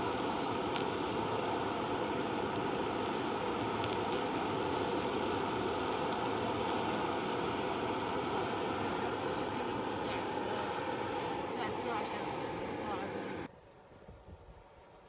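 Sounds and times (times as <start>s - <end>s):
fire crackles: 0.0s - 13.5s
open fire rushing: 0.0s - 13.5s.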